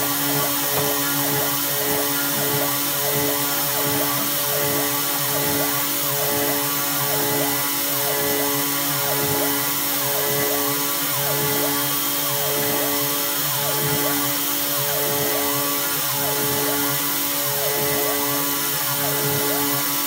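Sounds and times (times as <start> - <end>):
motors whining up and down: 0.0 - 20.0
router spindle cutting metal: 0.0 - 20.0.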